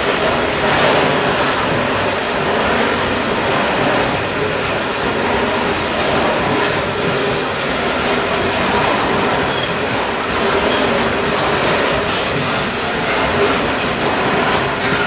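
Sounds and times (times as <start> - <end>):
steel wheels rumbling on rail: 0.0 - 15.0
wheels clicking over rail joints: 0.0 - 15.0.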